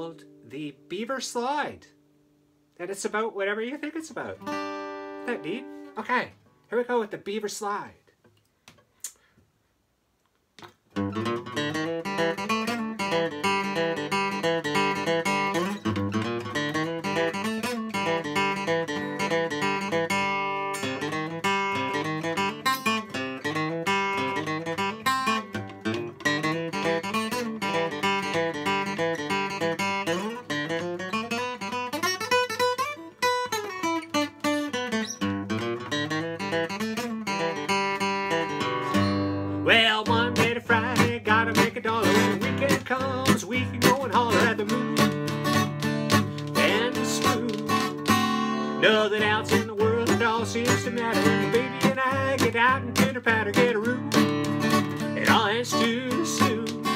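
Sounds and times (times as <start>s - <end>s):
acoustic guitar playing: 0.0s - 6.8s, 10.6s - 56.9s.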